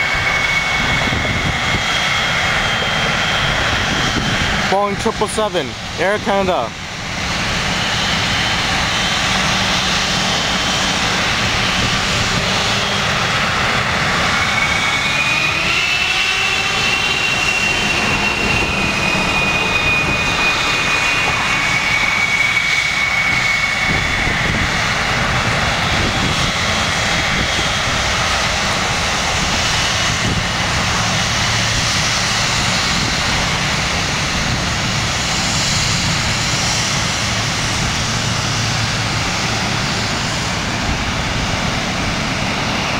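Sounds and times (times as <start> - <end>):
jet engines spooling up: 0.0 - 42.9.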